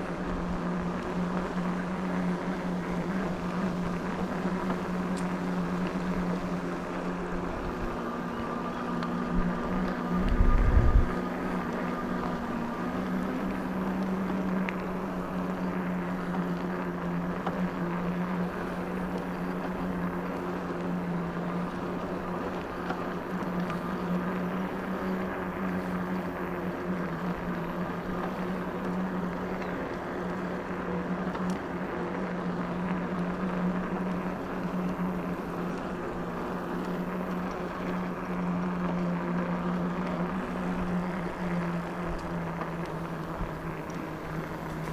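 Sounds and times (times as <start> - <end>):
electric bike motor hum: 0.0 - 44.9.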